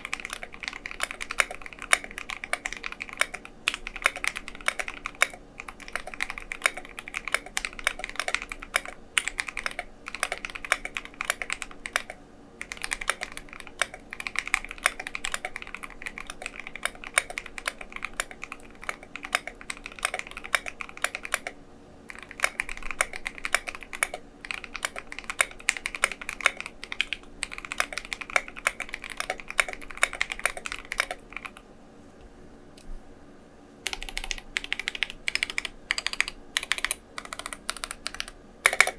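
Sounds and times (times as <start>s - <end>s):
mechanical keyboard typing: 0.0s - 31.6s, 33.8s - 38.9s.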